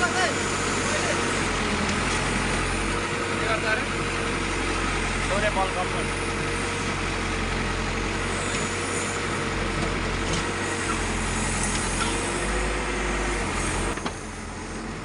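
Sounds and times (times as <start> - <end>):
heavy diesel engines running hard: 0.0 - 15.0.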